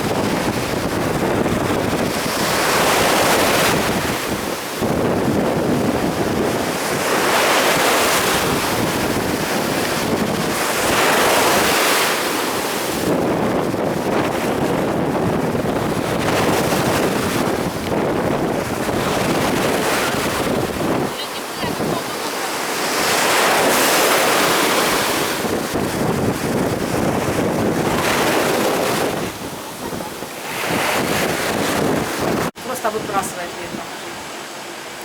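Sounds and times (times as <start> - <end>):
waves breaking on beach: 0.0 - 35.0
wind buffeting microphone: 0.0 - 35.0.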